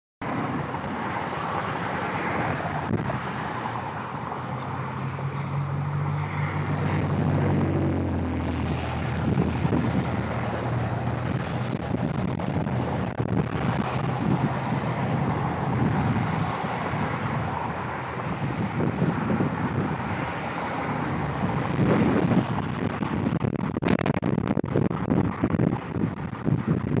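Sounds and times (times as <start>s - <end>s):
low engine drone: 0.2s - 27.0s
wind noise rushing: 0.2s - 27.0s.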